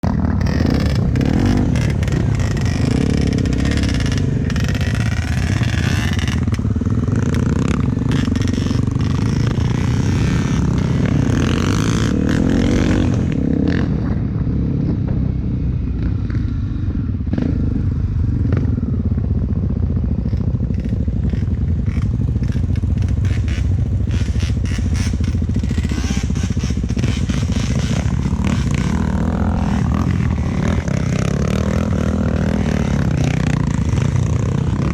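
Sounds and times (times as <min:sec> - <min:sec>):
motorcycle knocks and rattles: 0:00.0 - 0:15.4, 0:20.1 - 0:34.9
motorcycle engine revving: 0:00.0 - 0:34.9.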